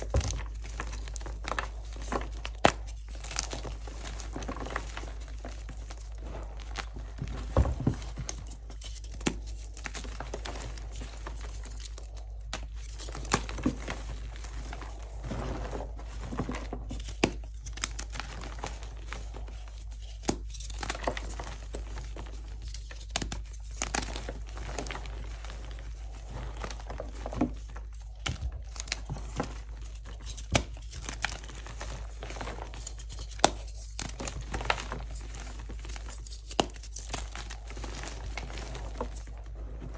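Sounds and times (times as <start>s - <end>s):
chalk pieces snapping: 0.0s - 6.2s, 8.0s - 14.0s, 16.8s - 24.6s, 26.8s - 39.0s
chalk crumbling and crunching: 0.0s - 39.9s.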